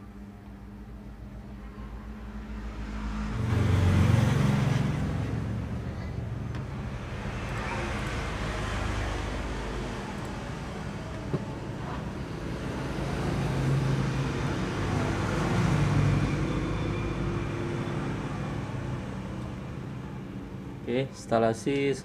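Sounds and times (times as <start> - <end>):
road traffic noise: 0.0 - 22.0
engine passing close by: 2.1 - 20.9.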